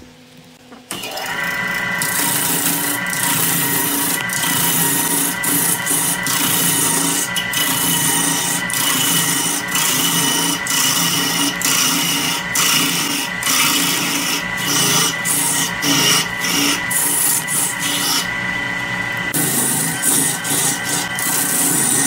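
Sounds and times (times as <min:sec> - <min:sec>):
wood lathe running: 0:00.9 - 0:22.0
gouge scraping spinning wood: 0:01.0 - 0:22.0.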